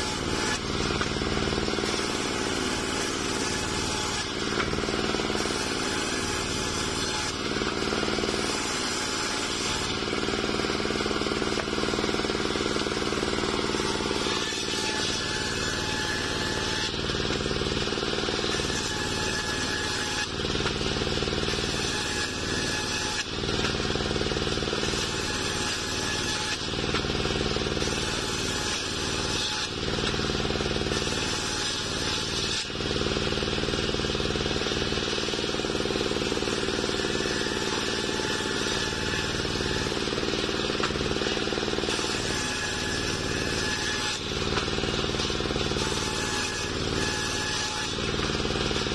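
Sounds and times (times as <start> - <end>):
circular saw cutting wood: 0.0 - 48.9.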